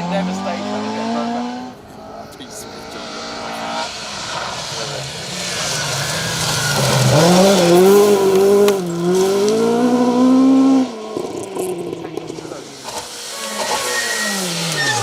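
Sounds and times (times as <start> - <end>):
rally car engine at speed: 0.0 - 15.0
tyre noise hiss: 2.2 - 15.0.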